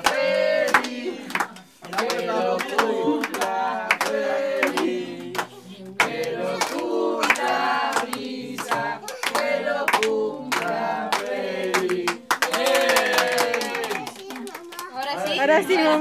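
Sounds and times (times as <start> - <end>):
group singing a birthday song: 0.0 - 14.1, 14.9 - 16.0
hands clapping: 0.0 - 15.2.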